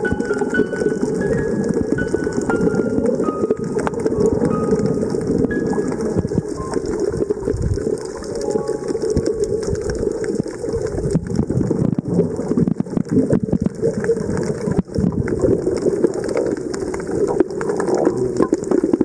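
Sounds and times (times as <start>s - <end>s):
underwater rush of water: 0.0s - 19.0s.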